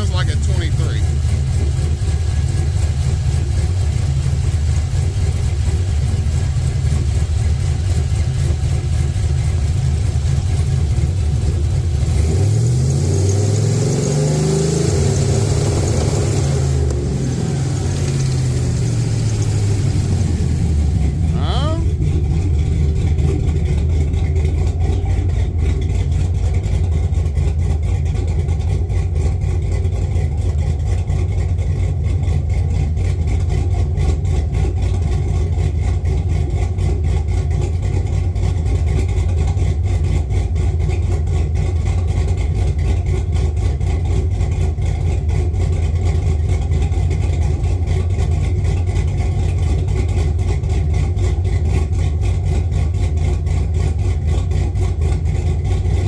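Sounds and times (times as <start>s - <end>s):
car engine running steadily: 0.0s - 56.0s.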